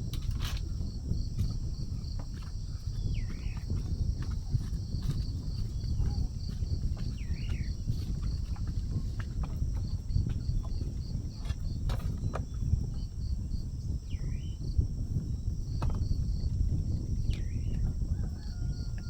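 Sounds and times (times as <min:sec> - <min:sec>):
wind rumbling on microphone: 0:00.0 - 0:19.0
insects chirping: 0:00.1 - 0:19.0.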